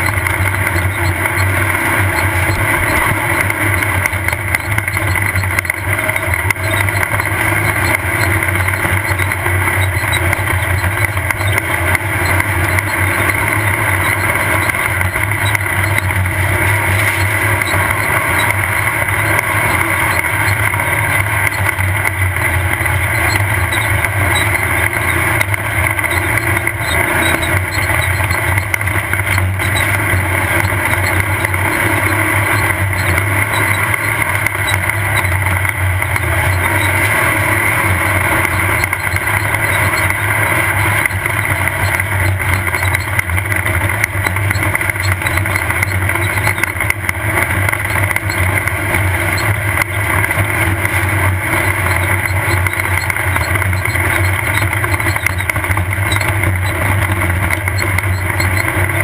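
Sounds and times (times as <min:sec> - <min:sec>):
race car engine running under load: 0:00.0 - 0:59.0
rumble and rattle from rough ground: 0:00.0 - 0:59.0.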